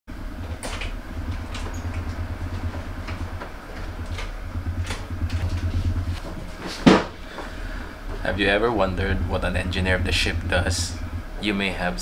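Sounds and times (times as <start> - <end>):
ship engines humming: 0.1 - 12.0.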